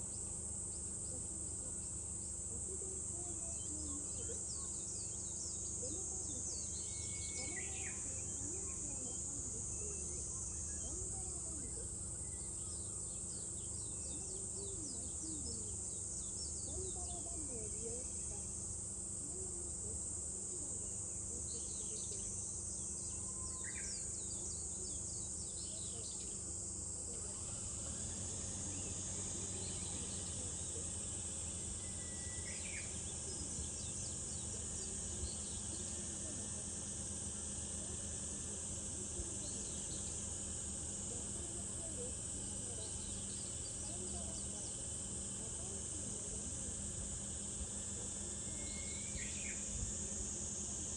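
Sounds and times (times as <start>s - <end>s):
cicadas droning: 0.0s - 50.9s.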